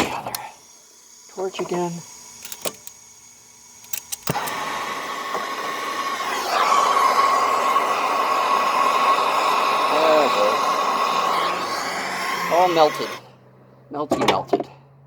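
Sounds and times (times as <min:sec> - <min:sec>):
torch igniter clicks: 0:00.0 - 0:13.2
torch flame hissing: 0:00.0 - 0:13.3.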